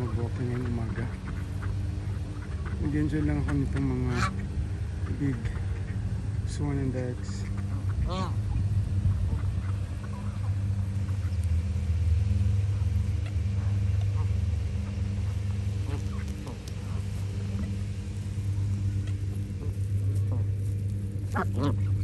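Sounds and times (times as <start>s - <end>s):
geese and ducks calling: 0.0s - 22.0s
low mechanical hum: 0.0s - 22.0s.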